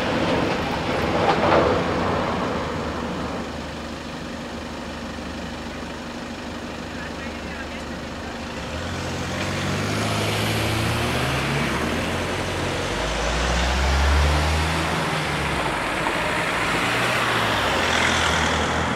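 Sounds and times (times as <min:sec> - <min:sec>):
car engines running: 0:00.0 - 0:18.9
tyres on wet road: 0:00.0 - 0:18.9.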